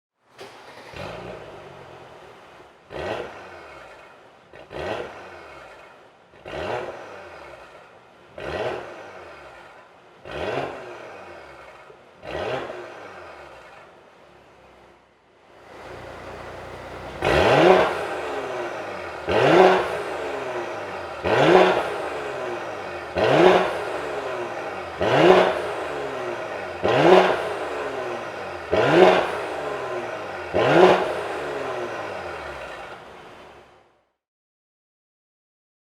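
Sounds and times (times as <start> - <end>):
car engine idling and revving: 0.2 - 34.1.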